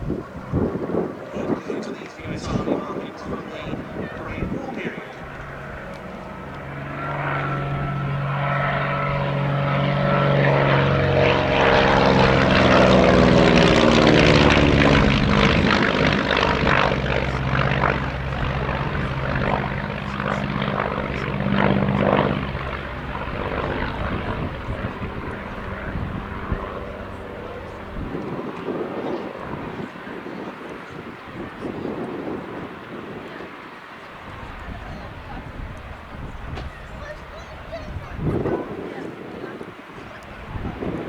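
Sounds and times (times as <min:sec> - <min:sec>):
propeller aircraft engine flypast: 0:00.0 - 0:41.0.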